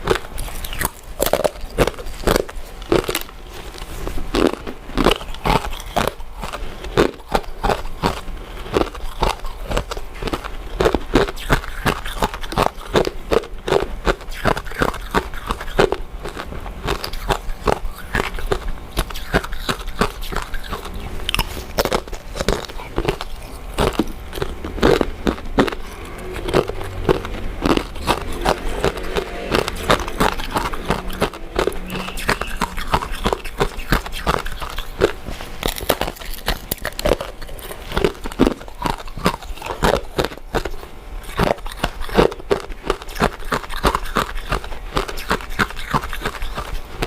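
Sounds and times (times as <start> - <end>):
chewing with mouth clicks: 0.0 - 47.0.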